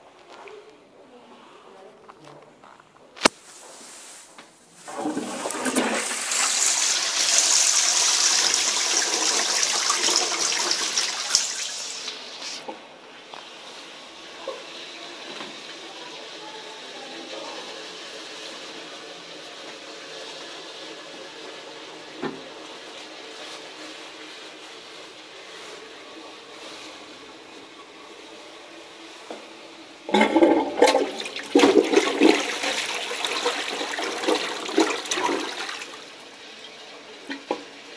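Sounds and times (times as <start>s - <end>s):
toilet flushing: 4.7s - 37.9s
water running in toilet: 4.8s - 37.9s.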